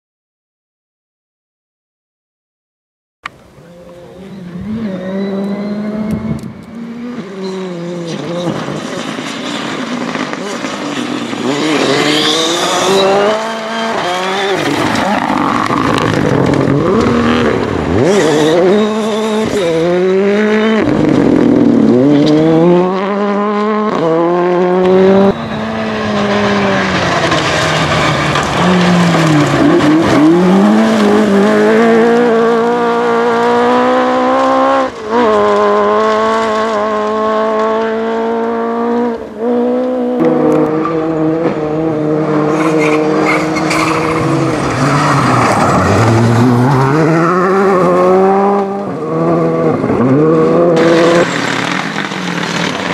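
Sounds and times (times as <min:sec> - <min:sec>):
rally car engine revving: 0:03.6 - 0:52.9.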